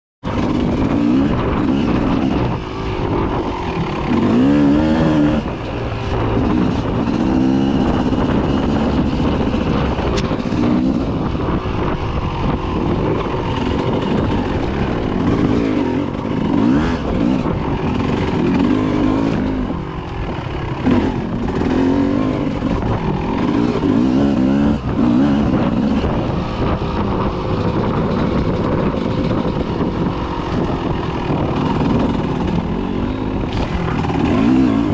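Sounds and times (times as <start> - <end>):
dirt bike engines revving: 0.3 - 34.9.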